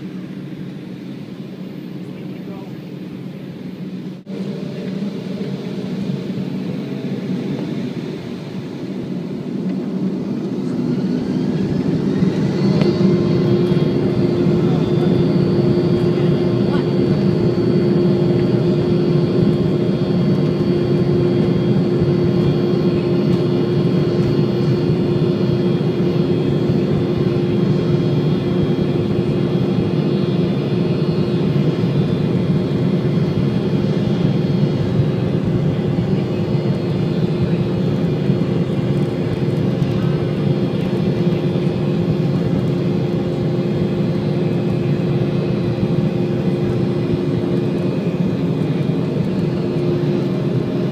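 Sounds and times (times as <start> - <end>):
jet engines roaring in cabin: 0.0 - 50.9
steady low hum: 0.0 - 50.9.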